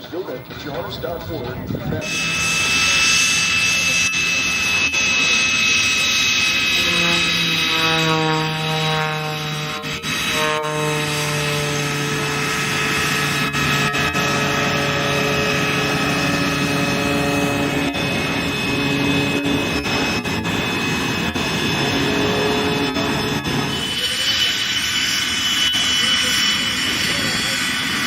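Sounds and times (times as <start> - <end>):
jet turbine whine: 0.0 - 28.0
rushing jet noise: 2.0 - 28.0.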